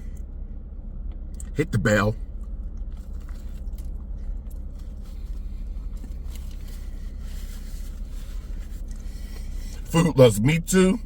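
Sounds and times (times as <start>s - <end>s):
motor vehicle rumbling: 0.0s - 11.0s.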